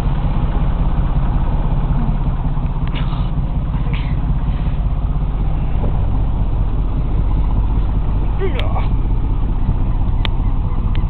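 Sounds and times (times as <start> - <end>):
boat motor throbbing: 0.0 - 11.0.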